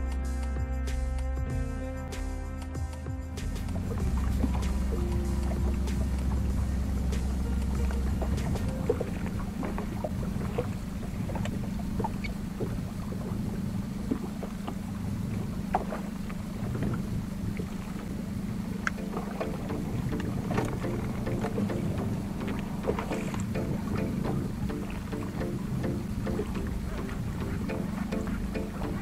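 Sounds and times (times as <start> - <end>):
outboard motor running: 3.7 - 29.0.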